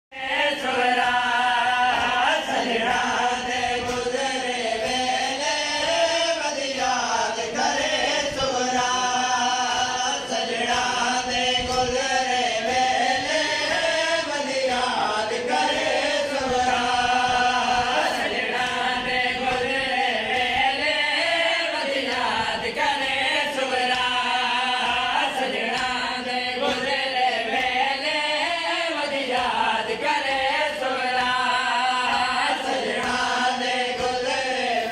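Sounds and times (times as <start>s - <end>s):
men chanting a lament: 0.1s - 34.9s.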